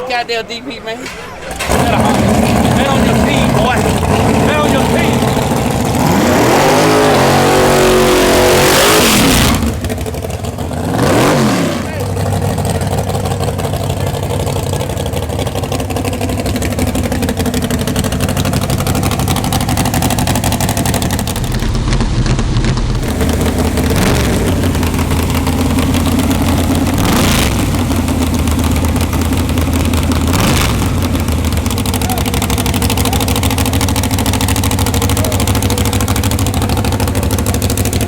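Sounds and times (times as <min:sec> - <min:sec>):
race car engine idling and revving: 0:00.0 - 0:38.0.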